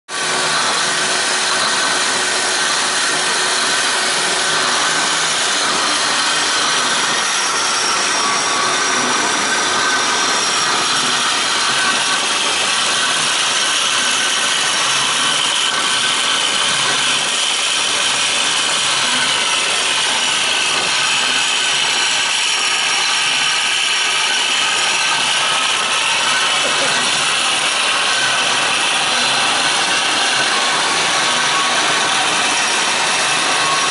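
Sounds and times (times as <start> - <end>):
band saw running: 0.1 - 33.9.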